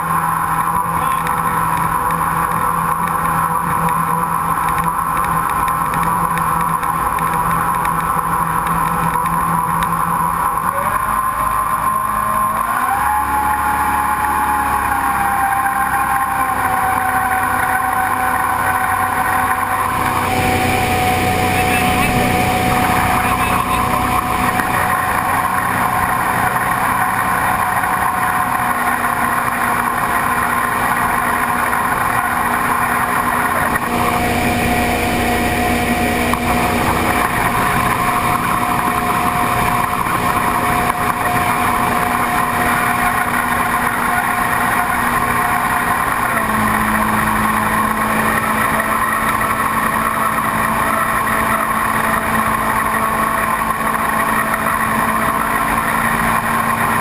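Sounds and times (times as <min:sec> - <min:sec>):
boat engine running loud: 0:00.0 - 0:57.0.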